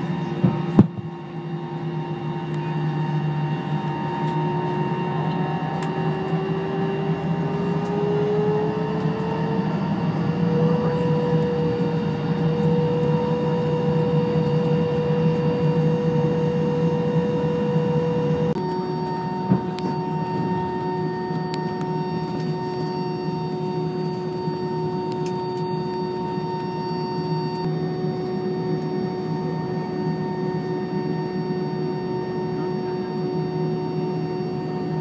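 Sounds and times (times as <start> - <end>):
jet engine hum and whine: 0.0 - 35.0.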